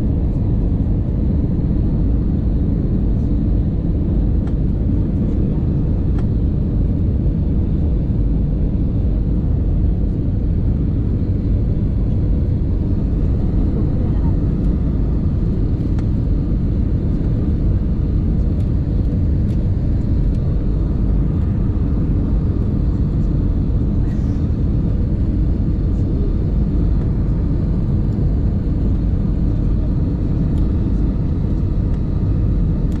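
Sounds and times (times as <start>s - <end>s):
airliner cabin engine rumble: 0.0s - 33.0s.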